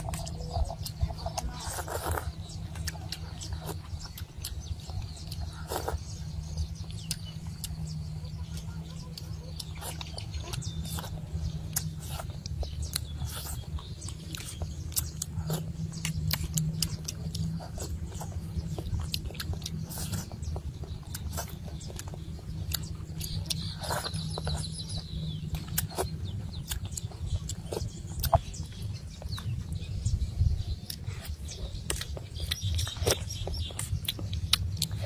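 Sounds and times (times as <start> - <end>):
high chirping: 0.0 - 35.0
person chewing and lip-smacking: 0.0 - 35.0.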